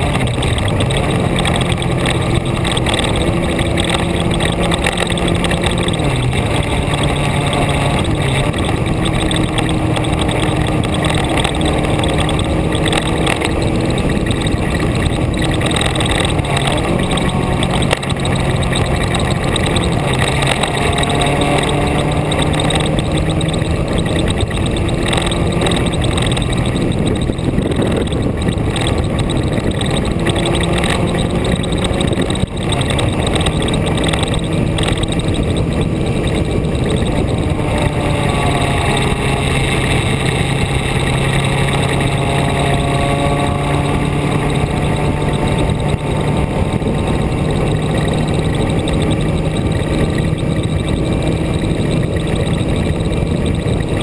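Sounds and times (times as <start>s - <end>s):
vehicle engine running: 0.0s - 54.0s
wind and road noise: 0.0s - 54.0s.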